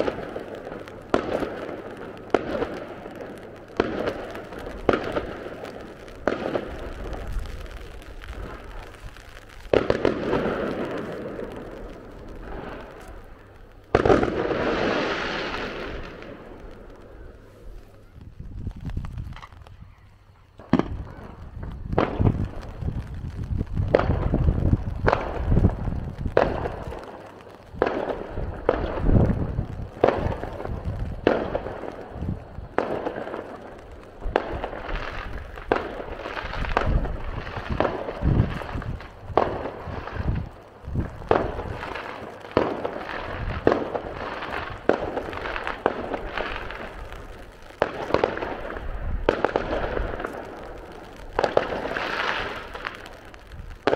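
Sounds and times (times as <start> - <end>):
fireworks bursting with sharp bangs: 0.0 - 53.9.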